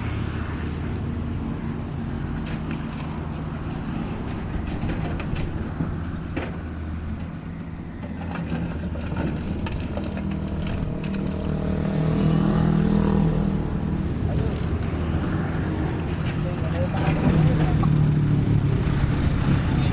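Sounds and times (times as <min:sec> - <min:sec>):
excavator diesel engine running: 0:03.3 - 0:19.9.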